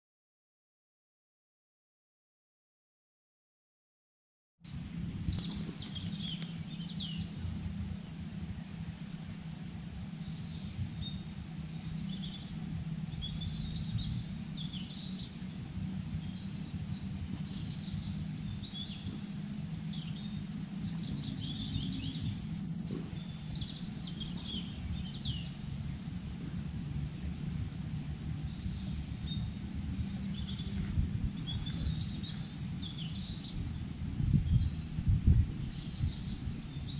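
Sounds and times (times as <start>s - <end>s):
birds chirping: 4.7s - 36.9s
high insect drone: 4.7s - 36.9s
low steady rumble: 4.7s - 36.9s.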